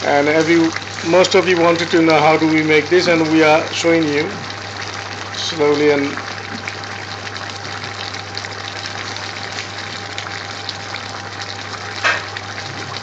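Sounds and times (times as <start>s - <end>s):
pot boiling and bubbling: 0.0s - 13.0s.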